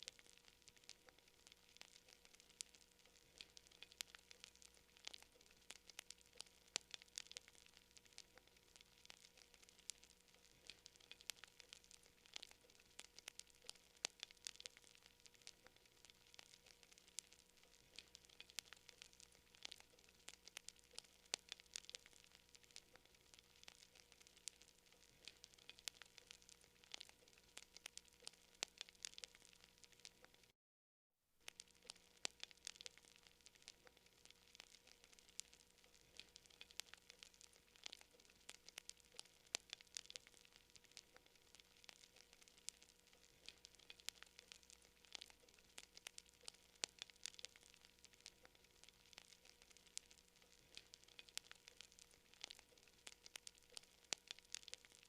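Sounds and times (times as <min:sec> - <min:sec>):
wood fire crackling: 0:00.0 - 0:30.6, 0:31.4 - 0:55.0.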